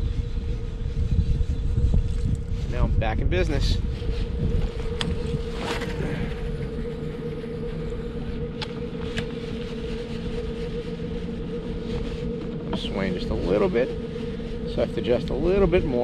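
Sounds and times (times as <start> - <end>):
electric outboard motor humming: 0.0 - 16.0
wind rumble on microphone: 0.0 - 16.0.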